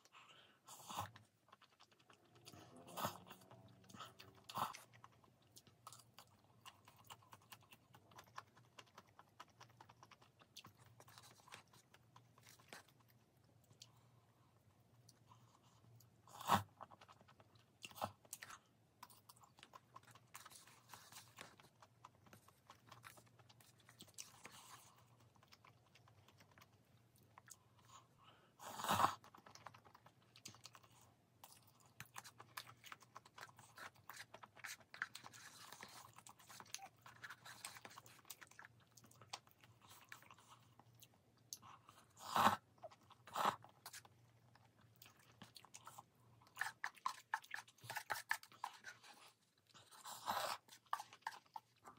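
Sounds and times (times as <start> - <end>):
soft chewing: 0.0 - 51.9.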